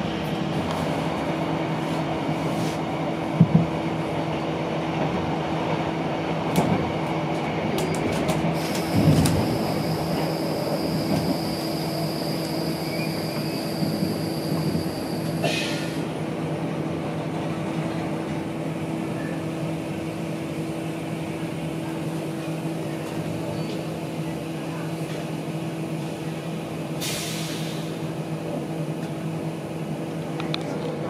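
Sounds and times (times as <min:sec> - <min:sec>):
train machinery hum: 0:00.0 - 0:31.0.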